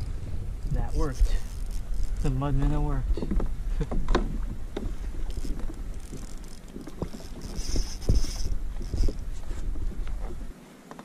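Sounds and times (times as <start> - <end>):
wind rumbling on microphone: 0.0 - 10.6.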